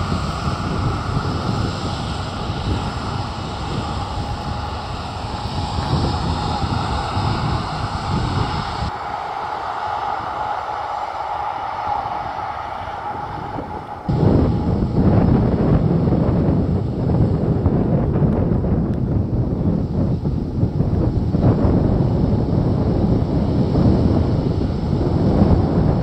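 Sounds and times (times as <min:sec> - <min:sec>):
jet engine drone: 0:00.0 - 0:26.0
wind buffeting microphone: 0:00.0 - 0:26.0.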